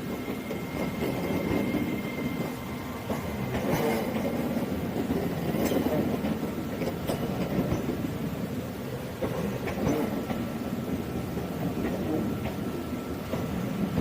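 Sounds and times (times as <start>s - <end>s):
train rumble: 0.0s - 14.0s
train wheels clattering: 0.0s - 14.0s.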